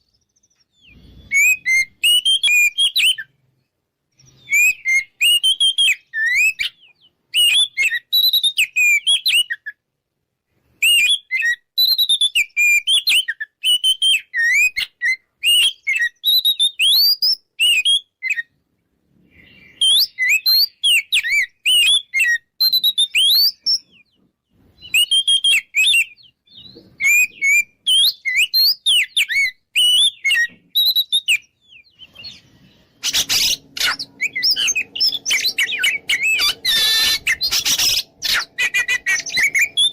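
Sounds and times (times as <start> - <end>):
bird whistling song: 0.0 - 3.5, 4.1 - 9.8, 10.8 - 18.6, 19.2 - 39.9.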